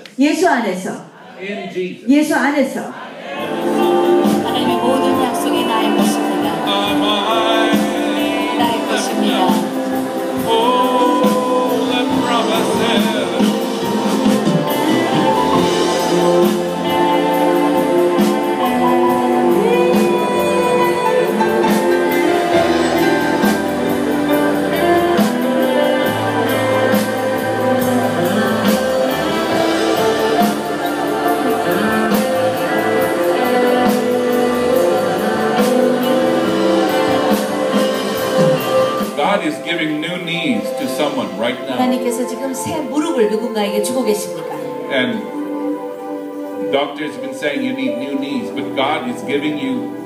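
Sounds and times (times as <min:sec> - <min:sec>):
voices singing: 0:00.0 - 0:50.0
band playing worship music: 0:03.2 - 0:50.0.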